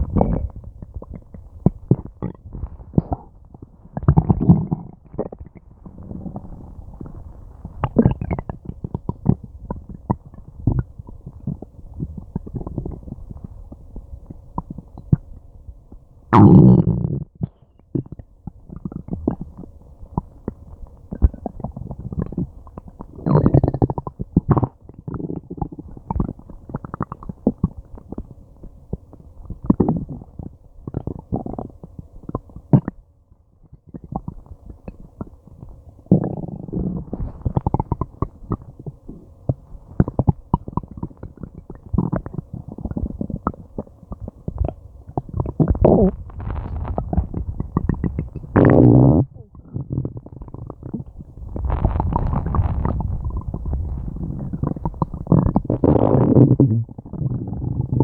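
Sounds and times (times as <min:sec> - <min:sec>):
stomach gurgling: 0:00.0 - 0:58.0.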